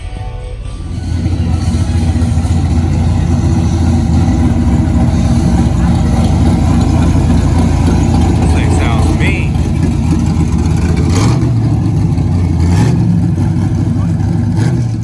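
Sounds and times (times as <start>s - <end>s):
car engine idling: 0.7s - 15.0s.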